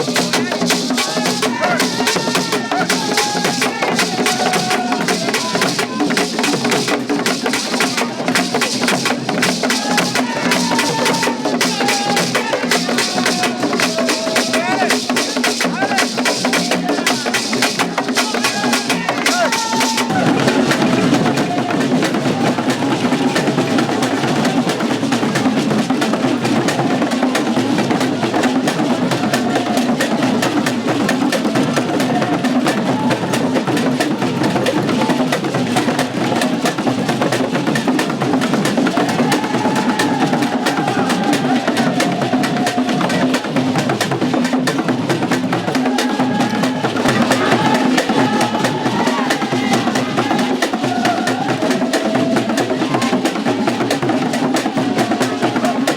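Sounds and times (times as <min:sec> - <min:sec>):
fast drum and percussion beat: 0:00.0 - 0:55.9.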